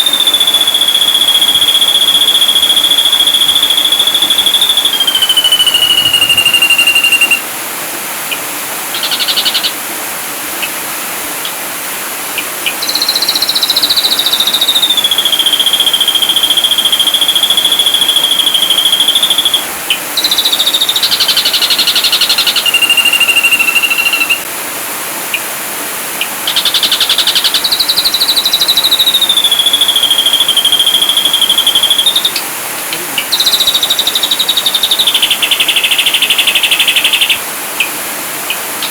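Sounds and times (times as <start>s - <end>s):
bird song whistles and buzzy trills: 0.0s - 7.5s, 8.3s - 9.8s, 12.4s - 24.5s, 26.2s - 38.9s.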